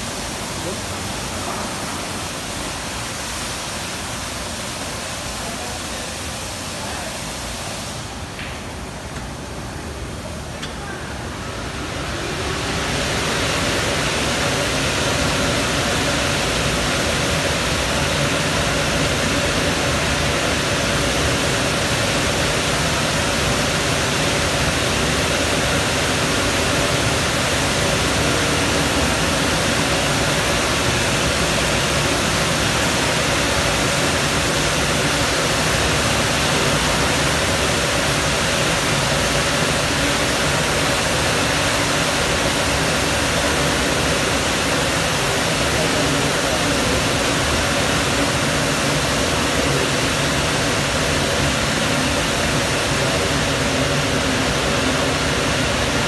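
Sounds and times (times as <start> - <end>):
blower dryers rushing air: 0.0 - 56.0.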